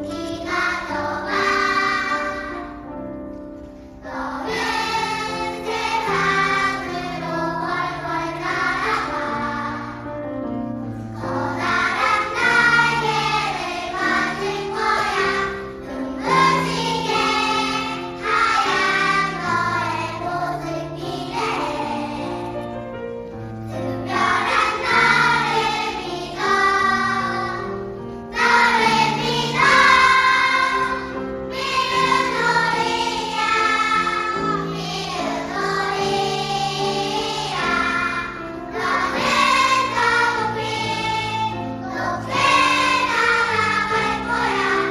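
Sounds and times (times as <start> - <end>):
children's choir singing: 0.0 - 3.1, 3.7 - 22.8, 23.7 - 44.9.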